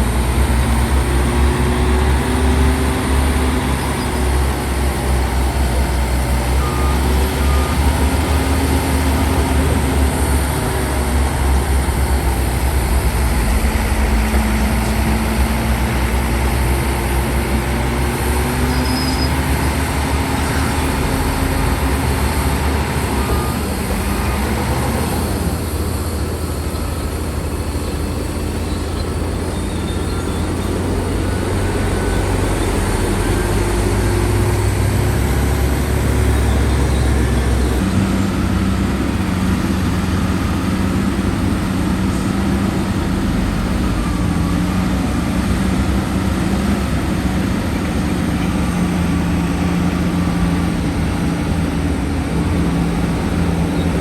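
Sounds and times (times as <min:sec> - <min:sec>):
heavy diesel engine rumbling: 0:00.0 - 0:54.0
higher engine hum: 0:00.0 - 0:54.0.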